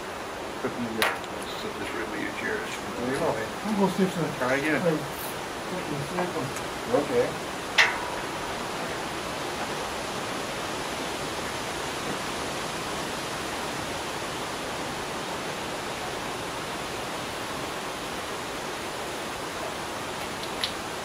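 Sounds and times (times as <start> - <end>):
steady rushing hiss: 0.0 - 21.0.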